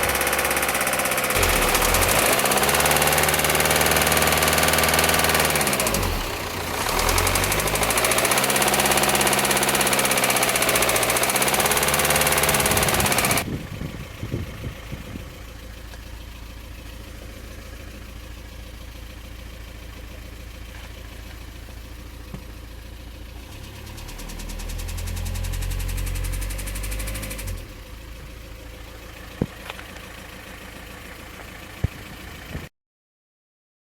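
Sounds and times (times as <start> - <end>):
diesel engine revving and idling: 0.0 - 32.7
engine knocking: 0.0 - 32.7.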